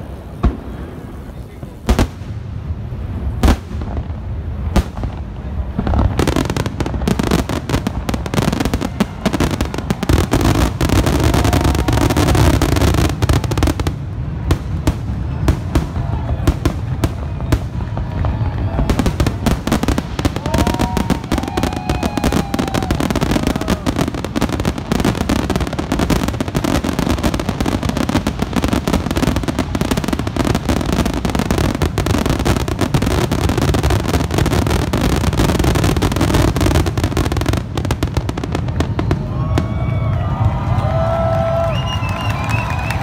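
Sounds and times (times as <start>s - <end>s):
fireworks bursts and crackle: 0.0s - 43.0s
crowd cheering: 6.2s - 43.0s.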